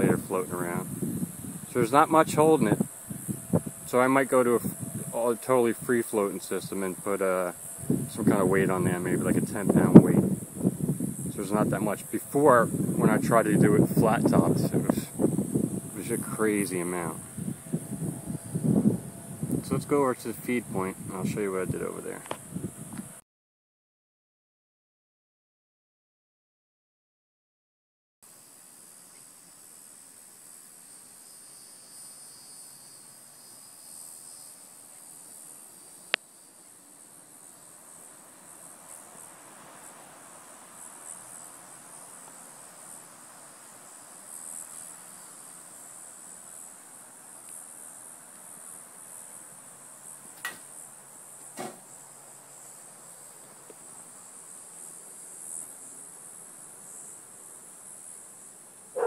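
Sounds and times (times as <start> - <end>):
insects chirping: 0.0 - 23.2, 28.3 - 59.0.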